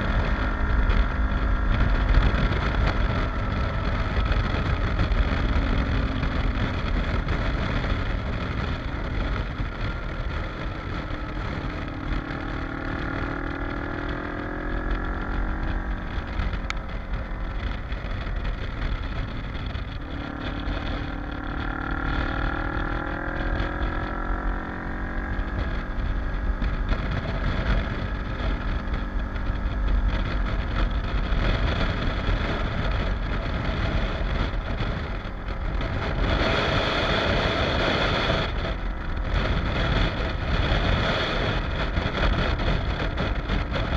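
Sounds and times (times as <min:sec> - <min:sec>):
motorcycle engine accelerating: 0:00.0 - 0:43.9
wind rumble on microphone: 0:00.0 - 0:43.9.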